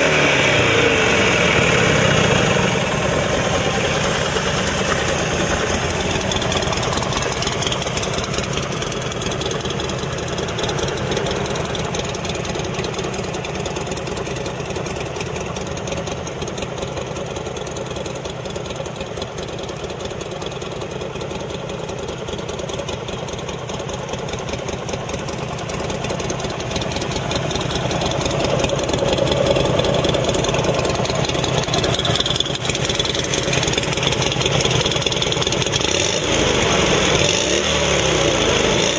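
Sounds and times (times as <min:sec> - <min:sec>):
motorcycle engine running at low revs: 0:00.0 - 0:38.9.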